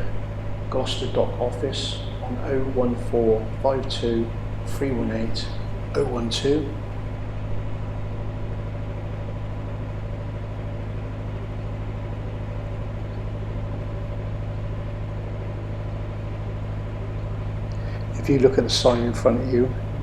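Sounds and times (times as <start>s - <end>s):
diesel boat engine throbbing: 0.0s - 20.0s.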